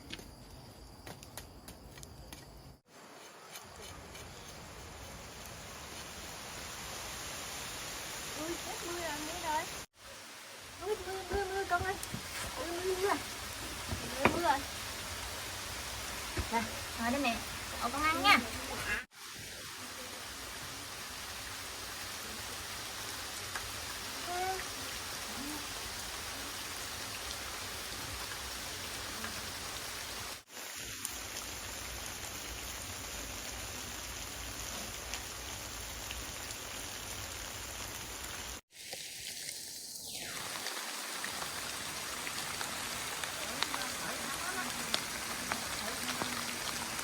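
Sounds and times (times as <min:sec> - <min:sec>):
rain falling: 0:02.9 - 0:47.0.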